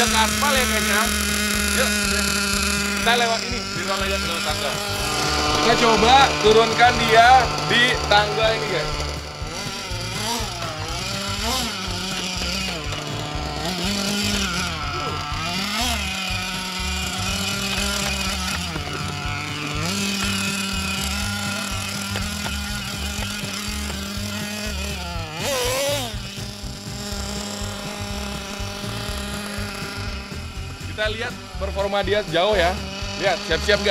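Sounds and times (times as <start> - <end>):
small engine revving and idling: 0.0 - 33.9.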